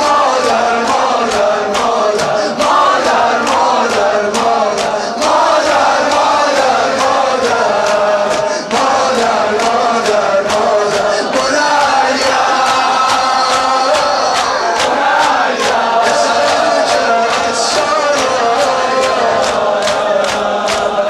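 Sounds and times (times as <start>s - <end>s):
man chanting into a microphone: 0.0s - 21.0s
rhythmic chest-beating slaps: 0.0s - 21.0s.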